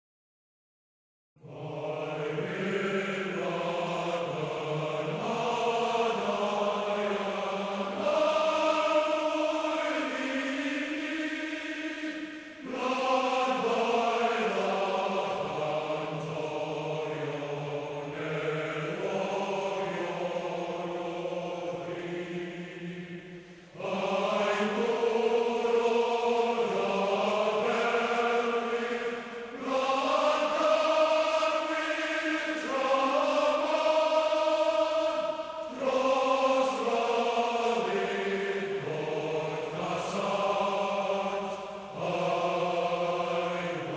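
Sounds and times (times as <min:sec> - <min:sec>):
choir singing held notes: 0:01.4 - 0:43.9.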